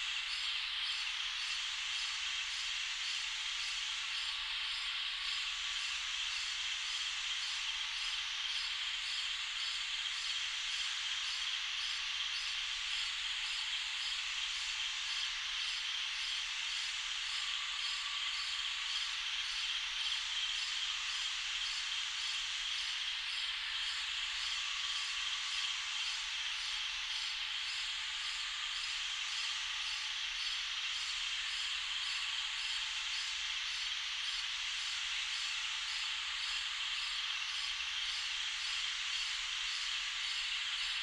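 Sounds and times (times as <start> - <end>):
night insects chirring: 0.0 - 41.0.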